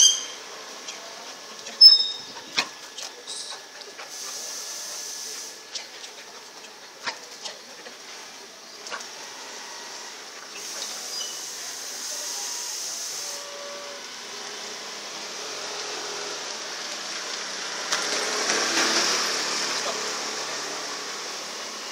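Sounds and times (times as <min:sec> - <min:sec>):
street background hiss: 0:00.0 - 0:21.9.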